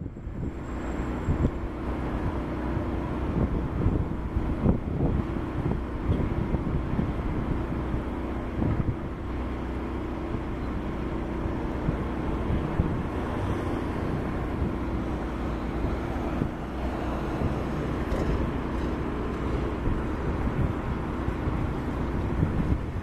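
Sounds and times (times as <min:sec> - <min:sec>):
diesel engine humming: 0:00.0 - 0:23.0
wind buffeting microphone: 0:00.0 - 0:23.0.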